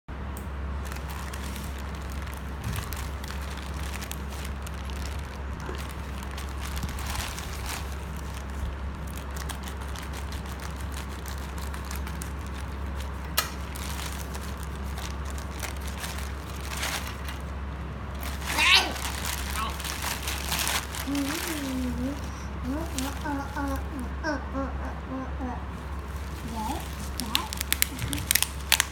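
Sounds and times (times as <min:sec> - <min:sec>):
steady low hum: 0:00.1 - 0:28.9
packaging rustling and crinkling: 0:00.8 - 0:23.9, 0:25.8 - 0:28.9.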